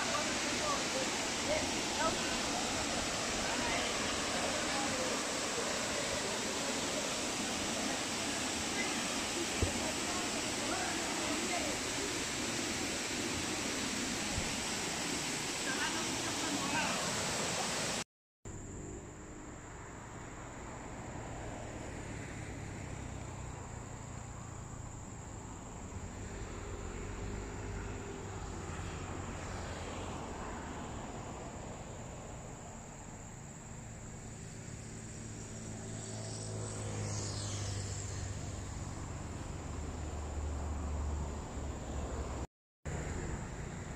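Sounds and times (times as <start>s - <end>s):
distant engine hum: 0.0s - 43.9s
insects droning: 0.0s - 43.9s.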